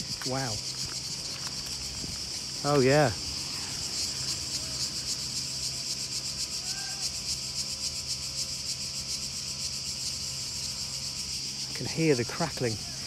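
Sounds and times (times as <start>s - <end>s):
cicadas calling: 0.0s - 13.0s.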